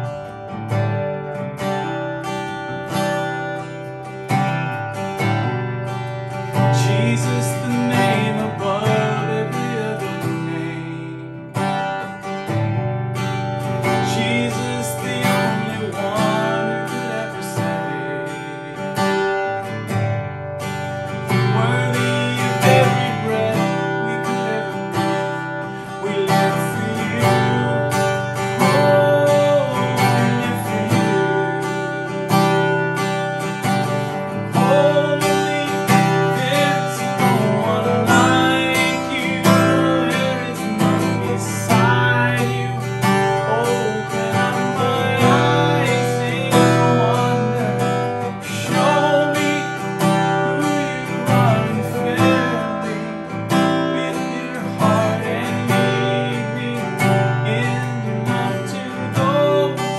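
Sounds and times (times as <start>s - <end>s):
man singing: 0.0s - 12.6s, 13.2s - 20.0s, 20.8s - 59.9s
acoustic guitar strumming: 0.0s - 59.9s.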